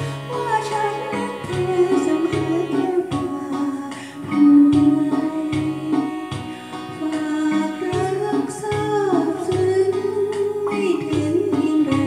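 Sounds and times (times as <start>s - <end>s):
karaoke backing music: 0.0s - 12.0s.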